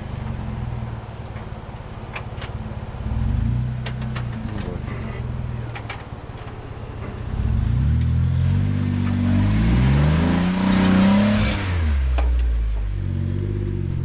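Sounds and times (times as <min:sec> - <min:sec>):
off-road vehicle engine revving: 0:02.6 - 0:14.0.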